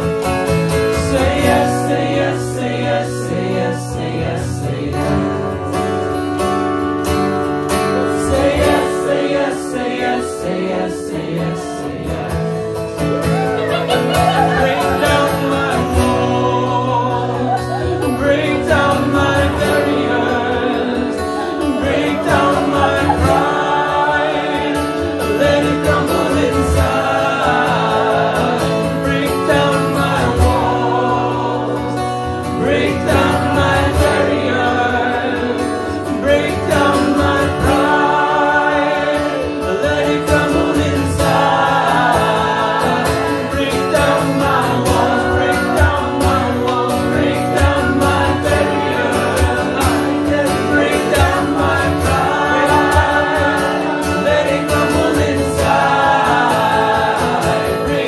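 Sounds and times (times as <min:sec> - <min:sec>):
man singing: 0:00.0 - 0:06.1, 0:07.8 - 0:58.0
acoustic guitar: 0:00.0 - 0:58.0.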